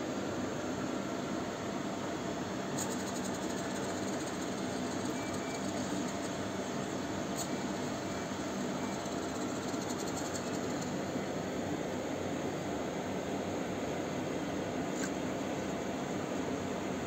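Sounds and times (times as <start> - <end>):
engine hum with hiss: 0.2 - 17.0.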